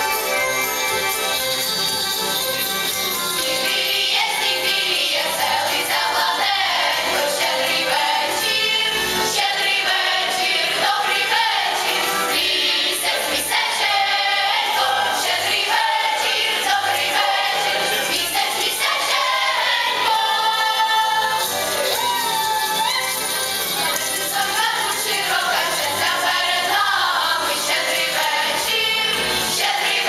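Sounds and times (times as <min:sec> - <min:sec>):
musical accompaniment: 0:00.0 - 0:30.0
children's choir singing: 0:03.6 - 0:21.6, 0:23.9 - 0:30.0.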